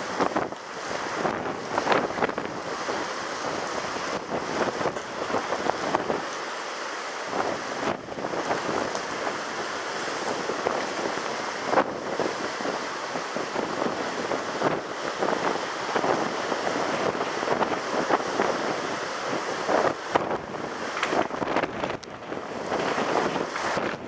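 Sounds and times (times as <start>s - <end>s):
wind buffeting microphone: 0.0s - 6.3s, 7.3s - 24.0s
sea surf rushing: 0.0s - 24.0s.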